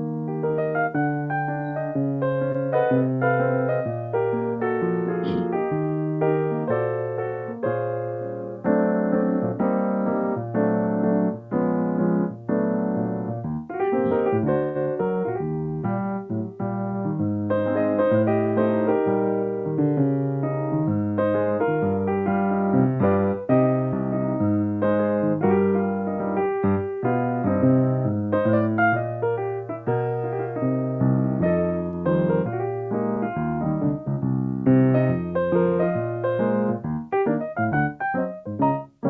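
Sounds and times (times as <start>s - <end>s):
solo piano chords: 0.0s - 39.0s.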